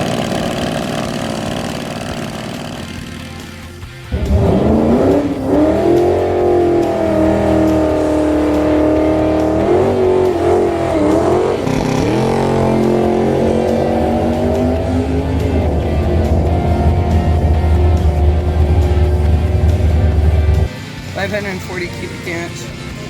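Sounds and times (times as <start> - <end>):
race car engine accelerating: 0.0 - 22.2.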